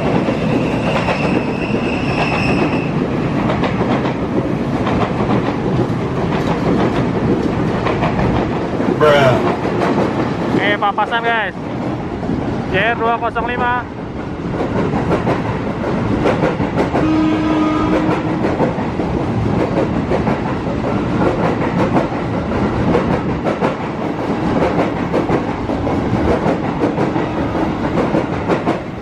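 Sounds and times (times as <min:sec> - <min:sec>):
train wheels clacking on rails: 0:00.0 - 0:13.4, 0:14.1 - 0:29.0.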